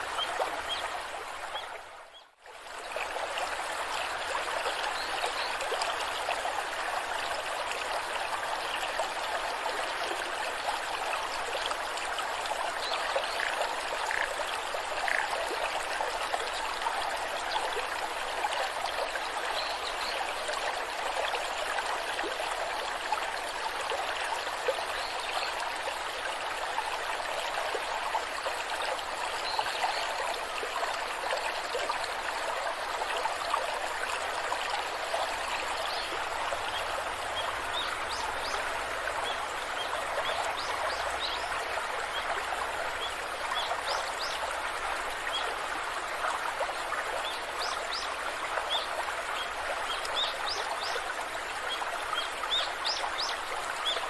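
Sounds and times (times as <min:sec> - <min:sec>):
rushing waterfall: 0:00.0 - 0:54.0.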